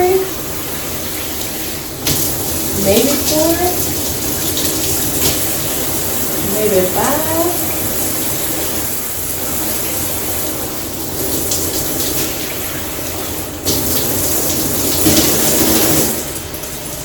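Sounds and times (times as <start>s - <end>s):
shower water spraying: 0.0s - 17.0s.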